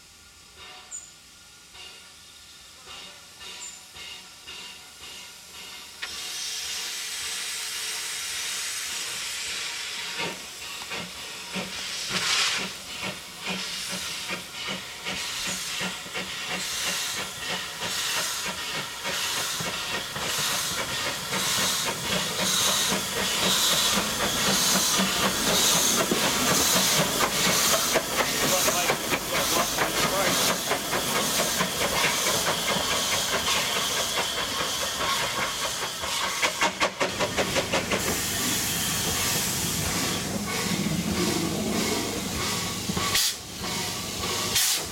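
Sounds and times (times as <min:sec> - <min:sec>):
steam hiss: 0:00.0 - 0:44.9
steam locomotive exhaust chuffs: 0:00.0 - 0:44.9
steam blowing from drain cocks: 0:03.4 - 0:44.9.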